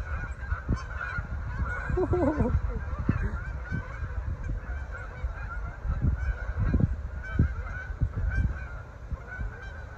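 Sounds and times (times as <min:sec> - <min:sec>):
geese honking: 0:00.0 - 0:09.9.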